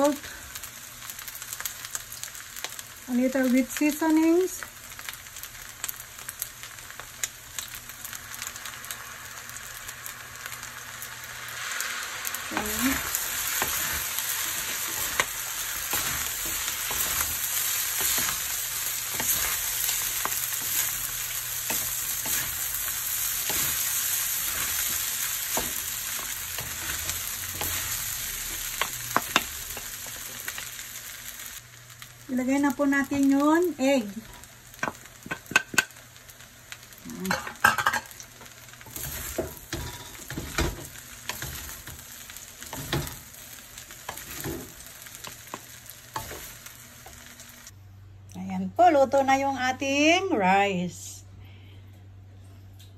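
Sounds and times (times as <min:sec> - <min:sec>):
rice sizzling in a pan: 0:00.0 - 0:47.8.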